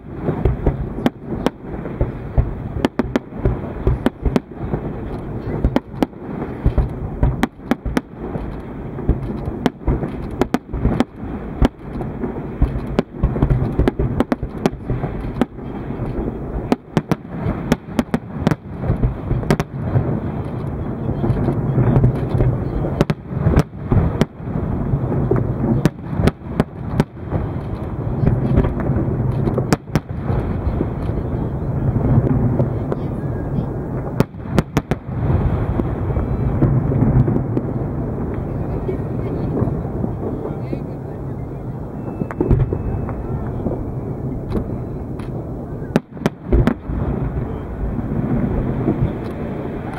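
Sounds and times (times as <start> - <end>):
fireworks bangs and cracks: 0.0 - 49.9
low rumble: 0.0 - 49.9.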